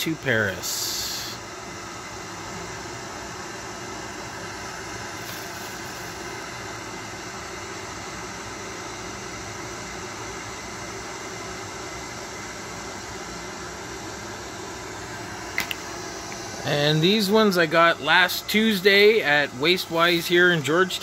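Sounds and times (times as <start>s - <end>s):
room hiss: 0.0s - 21.0s.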